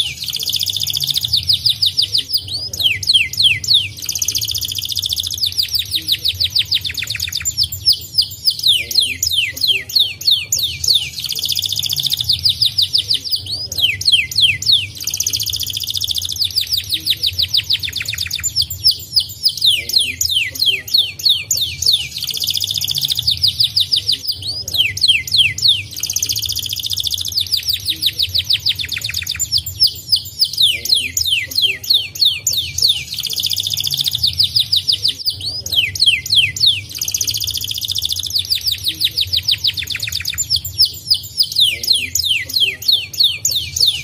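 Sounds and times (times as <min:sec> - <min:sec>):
canary singing: 0:00.0 - 0:44.0
steady low hum: 0:00.0 - 0:44.0.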